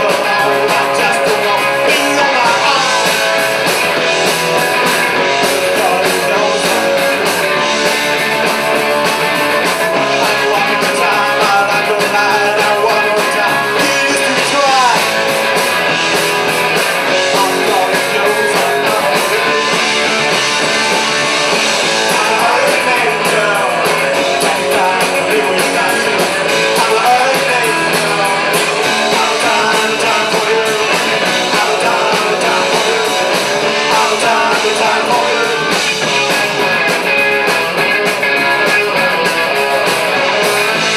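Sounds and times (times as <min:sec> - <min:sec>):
drum kit with cymbals: 0:00.0 - 0:40.9
electric guitars: 0:00.0 - 0:40.9.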